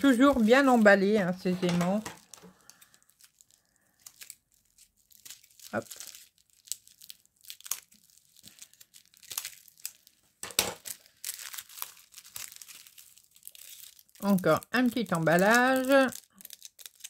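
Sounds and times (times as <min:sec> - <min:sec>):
plastic packaging crinkling and tearing: 0:00.0 - 0:17.0.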